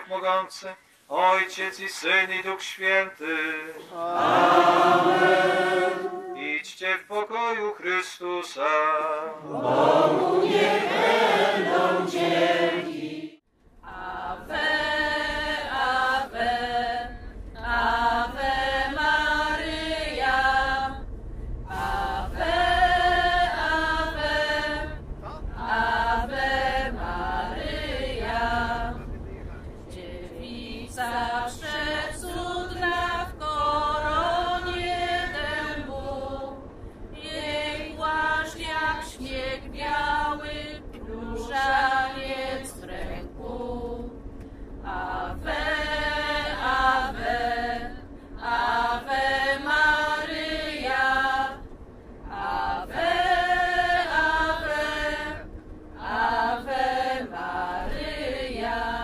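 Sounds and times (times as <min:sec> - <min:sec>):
group singing a hymn: 0:01.1 - 0:07.5, 0:08.6 - 0:29.2, 0:29.9 - 0:59.0.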